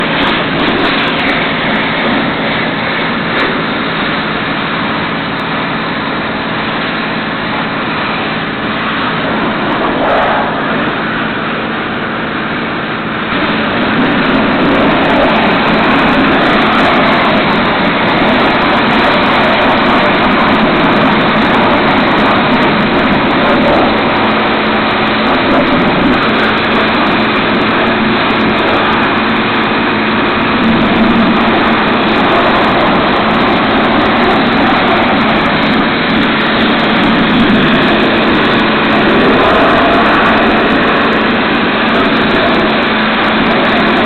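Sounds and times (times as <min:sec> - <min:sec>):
car wash machinery running: 0:00.0 - 0:44.0.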